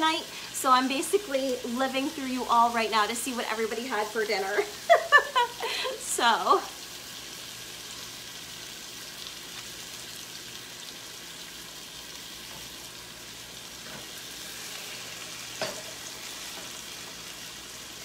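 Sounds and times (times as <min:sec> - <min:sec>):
chicken sizzling in a skillet: 0:00.0 - 0:18.0.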